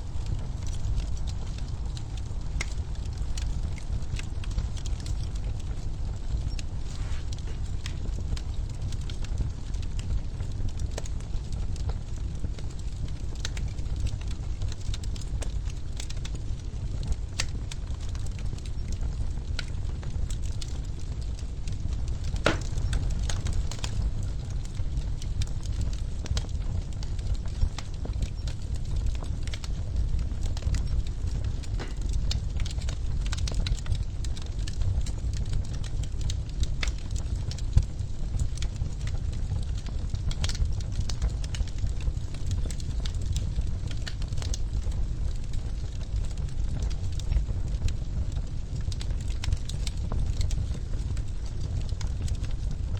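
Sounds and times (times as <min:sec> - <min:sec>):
fire flames rumbling: 0:00.0 - 0:52.9
logs crackling and popping: 0:00.1 - 0:52.9.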